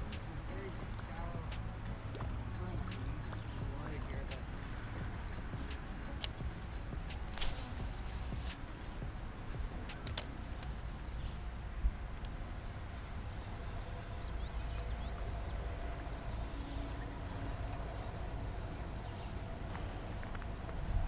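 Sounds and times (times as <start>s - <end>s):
river rumble: 0.0s - 21.0s.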